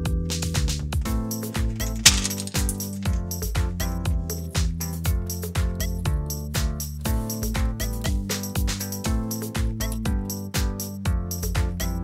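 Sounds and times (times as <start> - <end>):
upbeat music with drums: 0.0 - 12.0.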